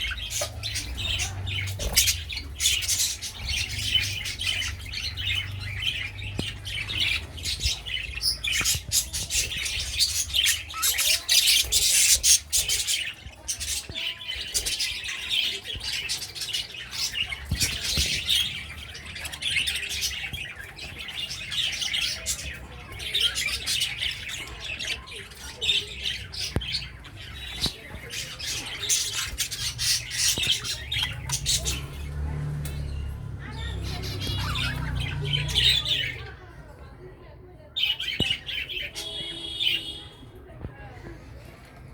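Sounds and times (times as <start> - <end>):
pet birds chattering: 0.0 - 41.9.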